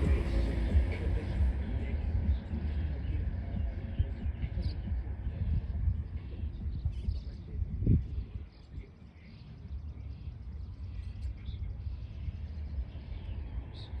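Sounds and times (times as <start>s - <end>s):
birds chirping faintly: 0.0s - 14.0s
steady low rumble: 0.0s - 14.0s.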